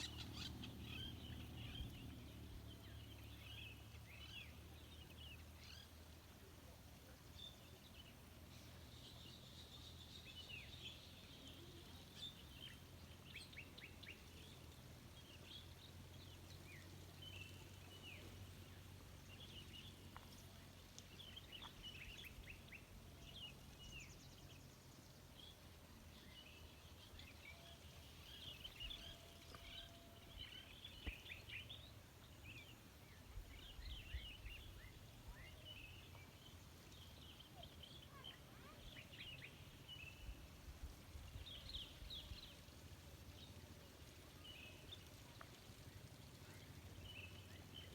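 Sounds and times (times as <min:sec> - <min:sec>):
low steady rumble: 0:00.0 - 0:37.6, 0:39.5 - 0:47.9
small birds chirping: 0:00.0 - 0:47.9.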